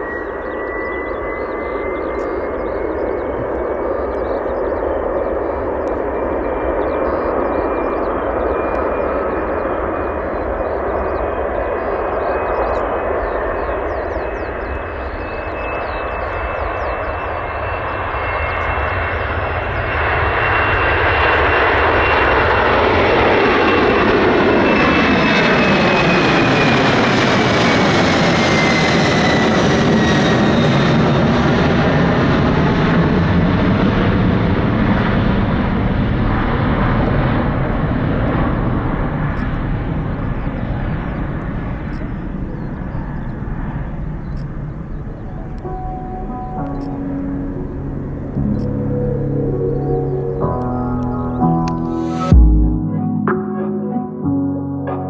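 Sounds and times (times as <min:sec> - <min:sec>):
high jet engine whine: 0:00.0 - 0:55.0
jet aircraft taking off: 0:00.0 - 0:55.0.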